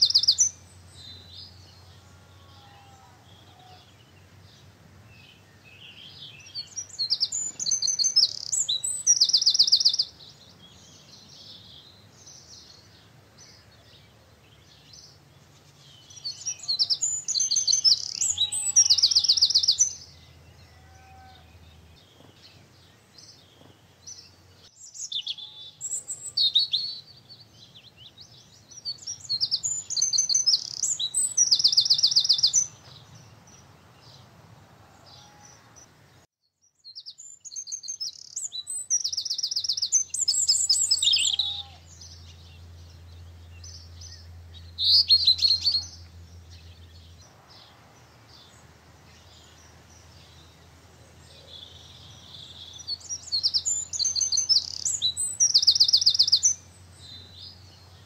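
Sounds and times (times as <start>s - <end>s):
quiet bird calls: 0.0s - 58.0s
songbirds trilling and chirping: 0.0s - 58.0s.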